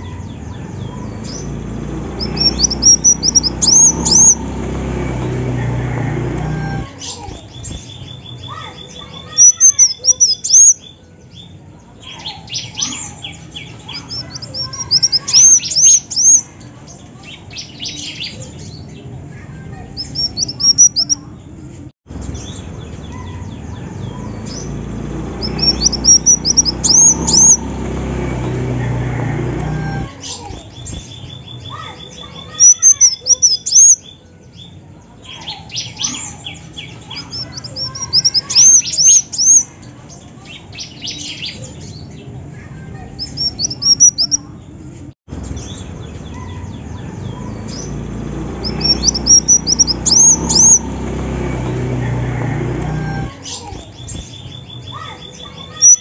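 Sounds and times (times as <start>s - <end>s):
bird chirping rapidly: 0.0s - 11.0s, 12.1s - 16.6s, 19.9s - 21.2s, 22.2s - 34.2s, 35.4s - 39.7s, 43.2s - 44.4s, 45.4s - 56.0s.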